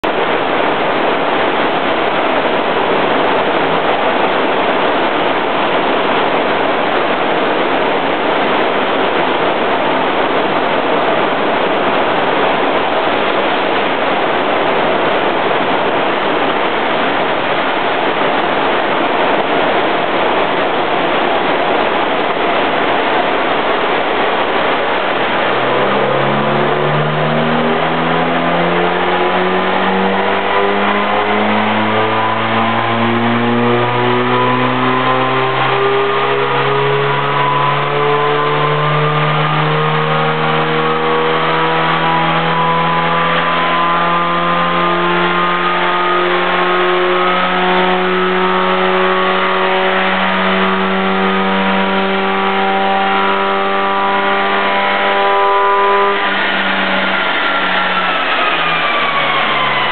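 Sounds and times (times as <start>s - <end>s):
car engine on dynamometer: 0.0s - 59.9s.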